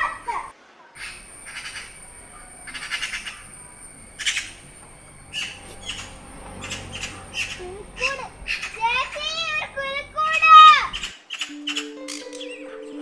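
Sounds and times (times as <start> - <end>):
bird squawking: 1.0 - 3.6, 4.2 - 4.7, 5.3 - 13.0.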